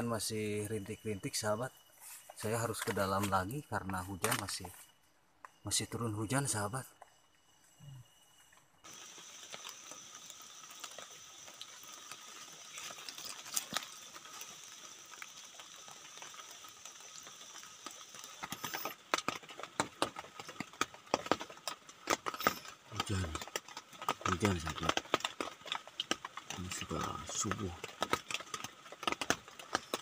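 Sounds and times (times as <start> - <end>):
light rain ticking on a tent: 0.0 - 30.0.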